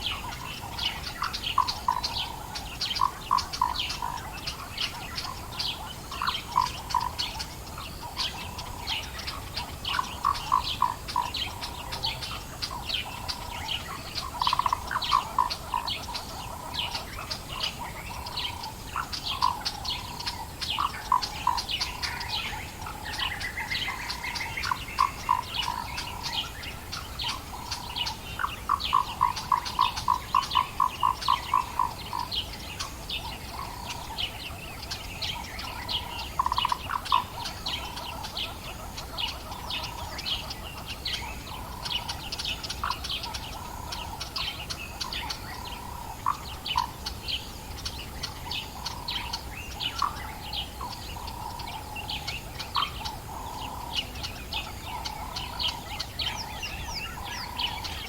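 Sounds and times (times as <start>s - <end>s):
bird trill: 0.0s - 58.0s
birds chirping: 0.0s - 58.0s.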